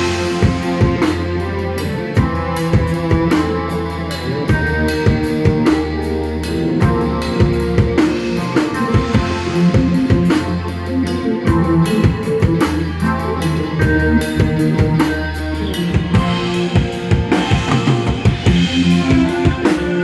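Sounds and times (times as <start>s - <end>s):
band playing instrumental: 0.0s - 20.0s
drum kit beat: 0.0s - 20.0s.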